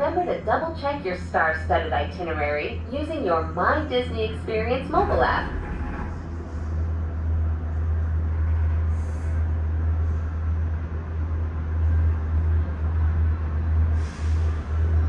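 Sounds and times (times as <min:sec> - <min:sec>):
gondola cabin rumble: 0:00.0 - 0:15.0.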